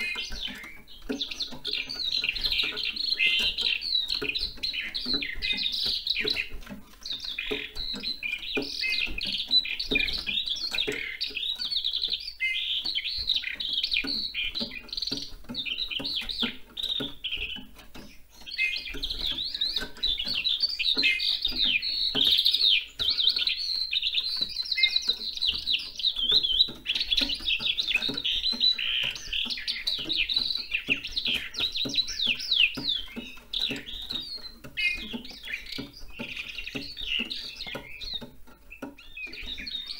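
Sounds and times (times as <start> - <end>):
skylark singing: 0.0 - 39.9.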